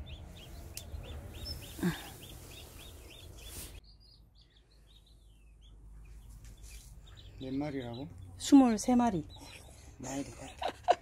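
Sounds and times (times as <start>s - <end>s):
chicks peeping: 0.0s - 10.6s
background noise: 0.0s - 11.0s.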